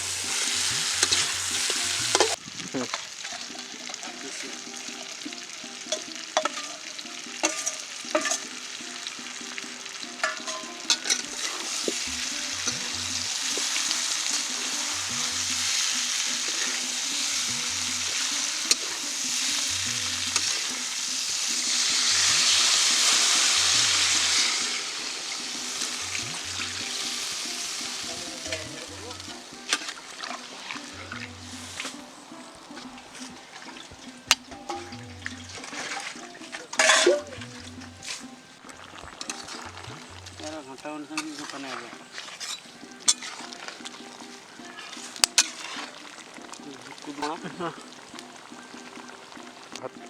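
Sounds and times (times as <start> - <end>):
ladle clinking and scraping pot: 0.0 - 5.1, 5.8 - 8.8, 10.0 - 32.1, 32.7 - 46.6
chicken sizzling in oil: 0.0 - 50.0.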